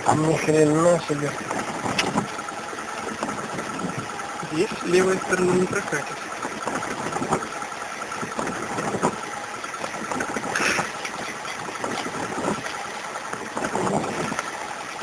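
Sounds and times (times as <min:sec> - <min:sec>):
off-road vehicle engine at low revs: 0:00.0 - 0:15.0
vehicle knocks and clunks: 0:00.0 - 0:15.0.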